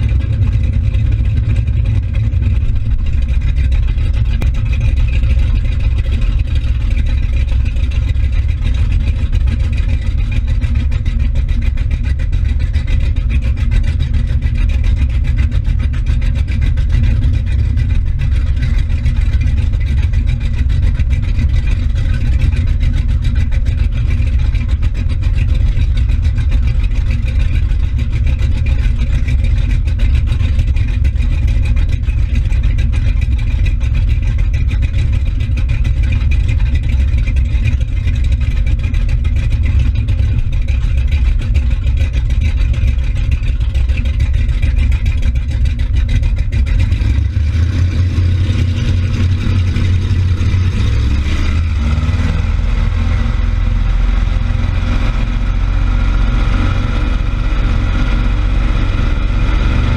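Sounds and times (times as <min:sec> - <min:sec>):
motorboat engine rumbling: 0:00.0 - 0:59.9
water churning in wake: 0:00.0 - 0:59.9.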